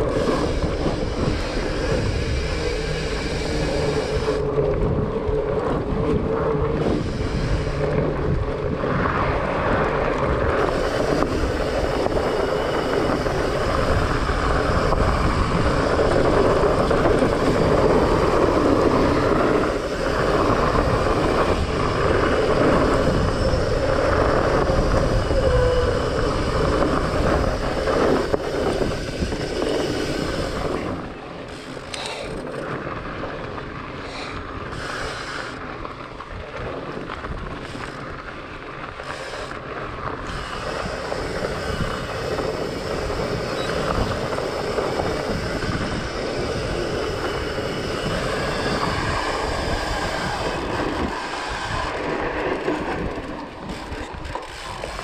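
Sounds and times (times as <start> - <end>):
bike rattling on gravel trail: 0.0 - 55.0
wind noise on microphone: 0.0 - 55.0.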